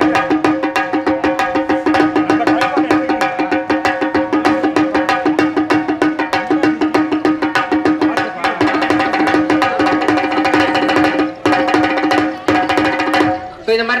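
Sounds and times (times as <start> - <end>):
frame drum struck rapidly: 0.0 - 13.6.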